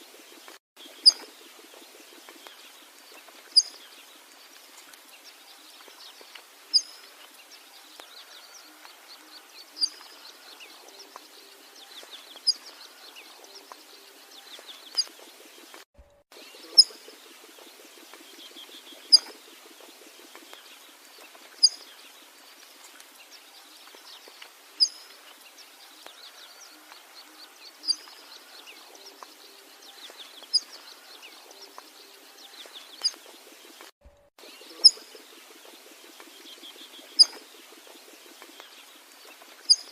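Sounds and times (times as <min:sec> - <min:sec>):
other birds chirping: 0:00.0 - 0:39.9.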